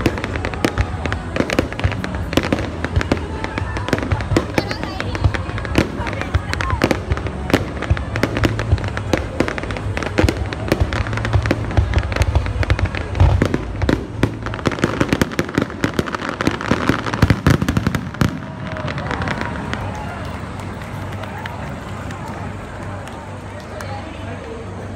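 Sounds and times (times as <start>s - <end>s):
firework bangs and crackles: 0.0s - 24.9s.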